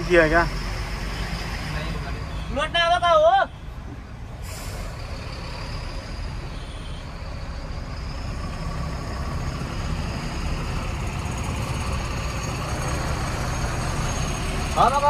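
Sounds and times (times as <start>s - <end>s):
diesel truck engine rumbling: 0.0s - 15.0s.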